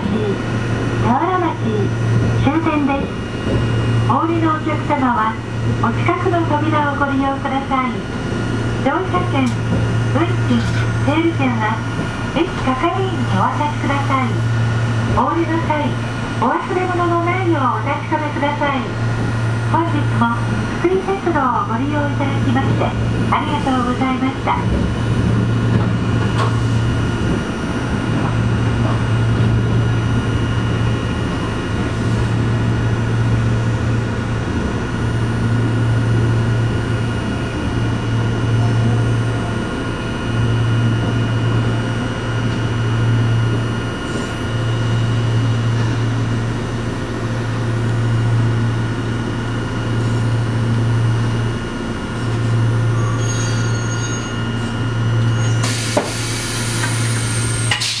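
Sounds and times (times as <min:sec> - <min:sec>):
tram motor low hum: 0:00.0 - 0:58.0.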